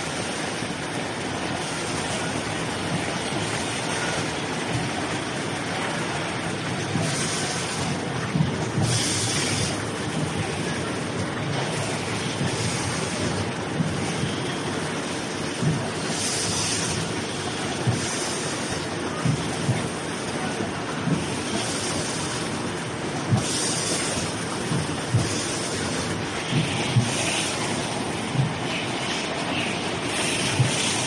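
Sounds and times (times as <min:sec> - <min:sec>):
packing machine clatter and whir: 0:00.0 - 0:31.0
machine knocking: 0:01.4 - 0:31.0.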